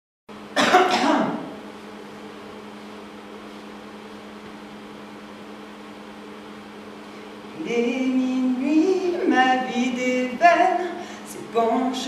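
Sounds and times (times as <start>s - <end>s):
steady hum with fixed tones: 0.3s - 12.0s.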